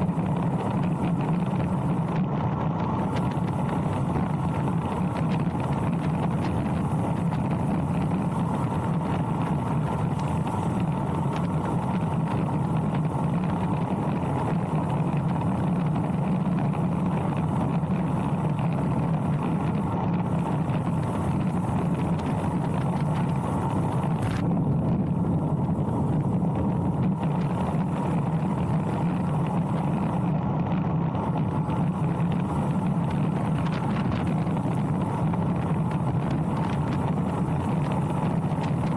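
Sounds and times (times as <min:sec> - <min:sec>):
bicycle tyres humming on asphalt: 0:00.0 - 0:38.9
wind buffeting microphone: 0:00.0 - 0:38.9.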